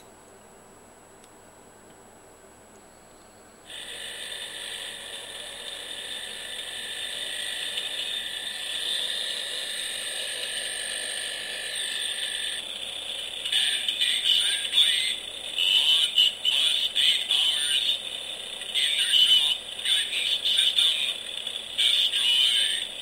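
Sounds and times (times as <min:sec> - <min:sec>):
high buzzing whir from small speaker: 0:00.0 - 0:23.0.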